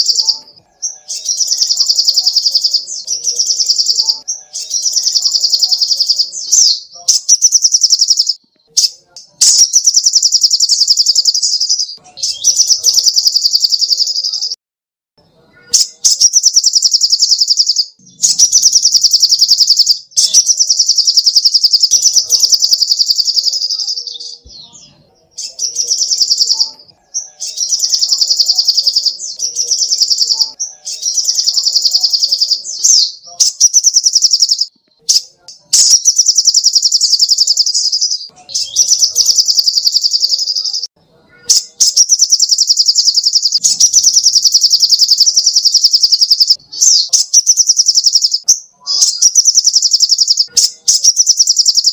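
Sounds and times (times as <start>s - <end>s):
songbird trilling: 0.0s - 14.5s, 15.8s - 40.9s, 41.5s - 51.9s.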